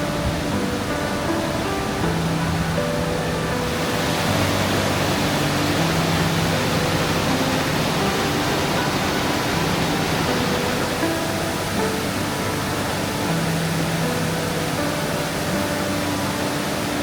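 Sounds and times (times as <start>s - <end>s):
soft background music: 0.0s - 17.0s
stream water rushing: 0.0s - 17.0s.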